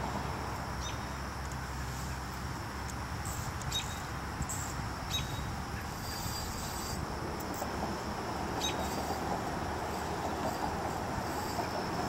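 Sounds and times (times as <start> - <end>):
low rumble with hiss: 0.0 - 12.0.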